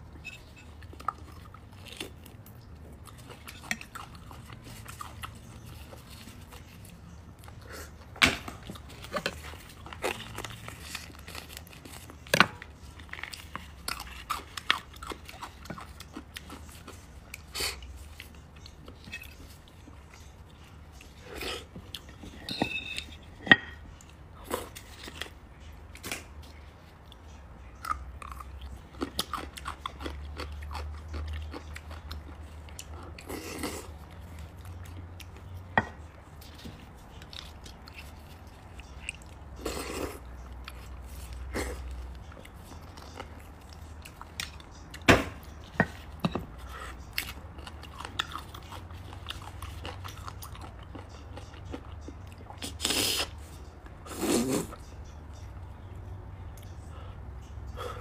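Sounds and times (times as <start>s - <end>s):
chewing bone marrow: 0.1s - 55.8s.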